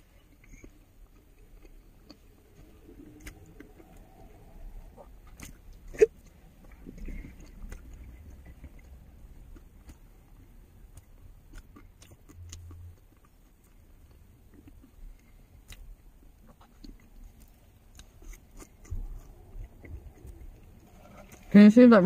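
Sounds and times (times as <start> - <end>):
person chewing a snack: 0.0 - 21.5.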